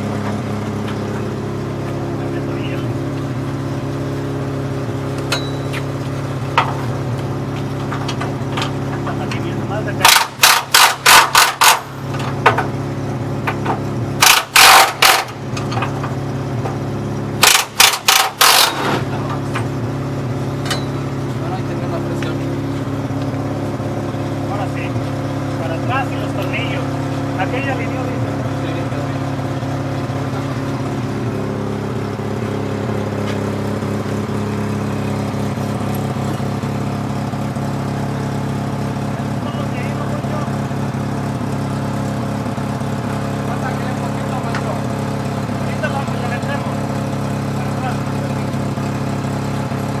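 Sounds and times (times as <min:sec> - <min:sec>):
truck engine idling: 0:00.0 - 0:50.0.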